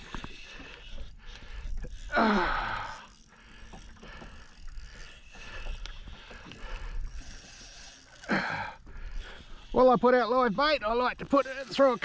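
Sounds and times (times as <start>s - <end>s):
fishing reel ratchet clicking: 0.0s - 12.0s.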